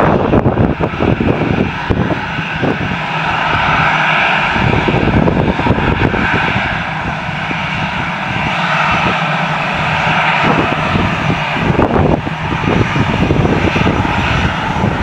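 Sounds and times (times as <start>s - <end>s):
jet engines at taxi power: 0.0s - 15.0s.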